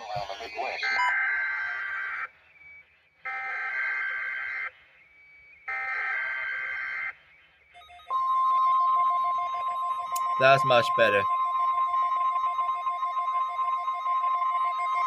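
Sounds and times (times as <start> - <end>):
steady warning alarm tone: 0.3 - 15.0.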